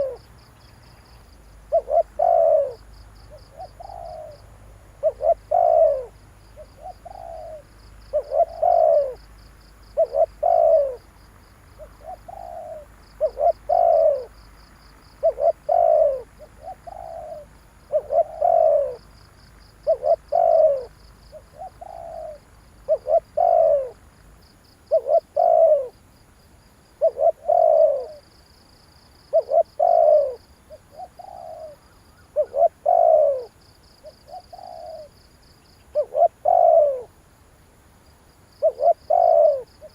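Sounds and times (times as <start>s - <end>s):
dove cooing: 0.0s - 0.3s, 1.6s - 11.2s, 11.8s - 24.1s, 24.8s - 26.0s, 27.0s - 28.4s, 29.2s - 37.2s, 38.6s - 39.9s.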